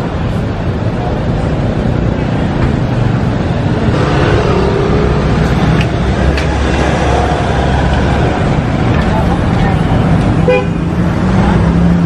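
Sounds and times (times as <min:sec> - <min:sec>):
passing motor vehicles rumble: 0:00.0 - 0:12.0.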